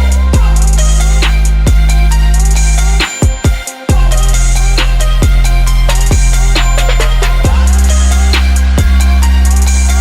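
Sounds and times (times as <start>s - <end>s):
hip-hop music with heavy bass: 0.0s - 10.0s.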